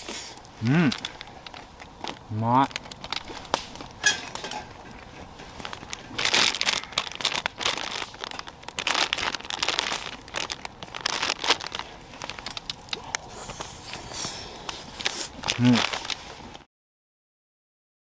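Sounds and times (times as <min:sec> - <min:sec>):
crinkling and rustling: 0:00.0 - 0:16.7.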